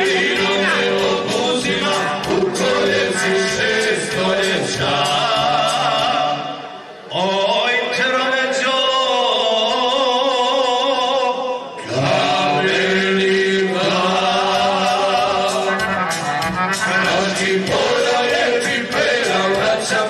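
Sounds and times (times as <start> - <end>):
men's vocal group singing: 0.0 - 20.0.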